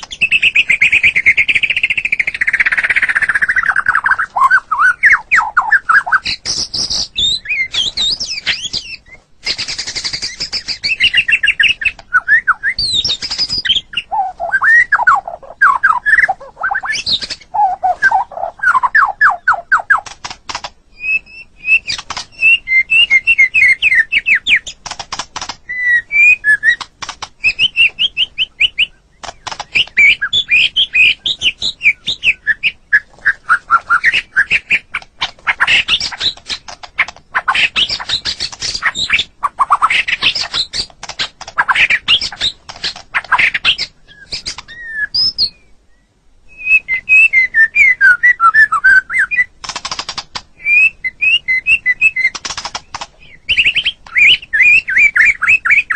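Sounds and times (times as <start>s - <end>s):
bird singing whistled trills: 0.0s - 20.1s, 20.9s - 24.8s, 25.6s - 40.9s, 43.2s - 49.5s, 50.6s - 55.9s.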